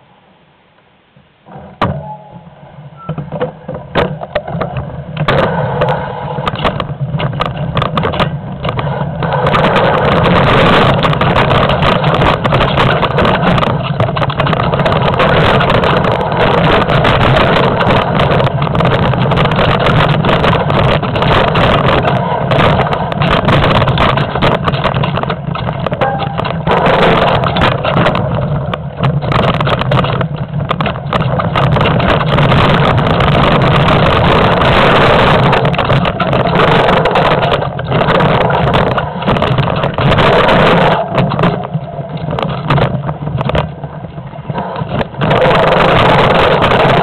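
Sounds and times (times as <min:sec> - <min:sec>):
wind on microphone: 0:01.5 - 0:47.0
mountain bike rattling over trail: 0:03.0 - 0:47.0
wheels knocking on roots and rocks: 0:03.0 - 0:47.0.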